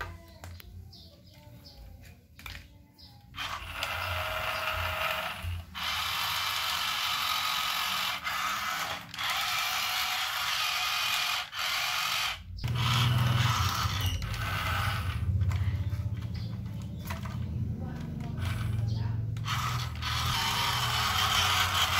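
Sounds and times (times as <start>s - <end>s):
toy truck mechanism whirring: 2.3s - 21.9s.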